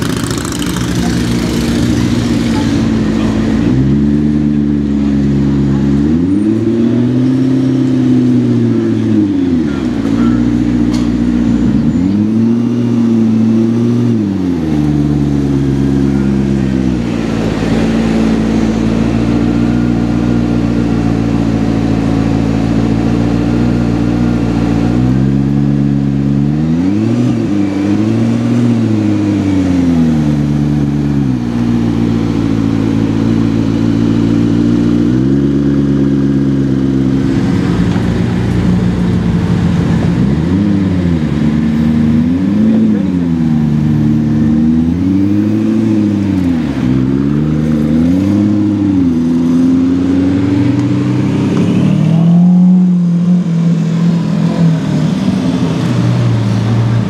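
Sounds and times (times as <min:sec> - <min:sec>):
car engine low note: 0:00.0 - 0:57.0
engine throttle blips: 0:00.0 - 0:57.0.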